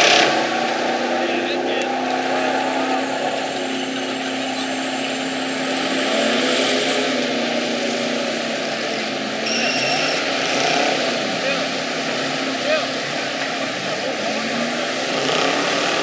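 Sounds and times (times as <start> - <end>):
truck engine revving high: 0.0 - 16.0.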